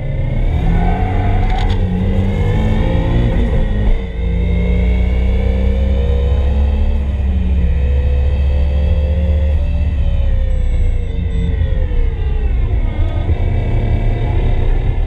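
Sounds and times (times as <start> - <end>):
turbocharged car engine pulling hard: 0.0 - 15.0.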